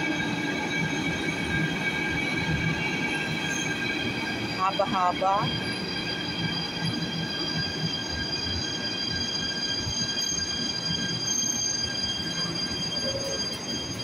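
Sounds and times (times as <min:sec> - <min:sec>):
high multi-toned train whine: 0:00.0 - 0:14.0
train rumbling: 0:00.0 - 0:14.0.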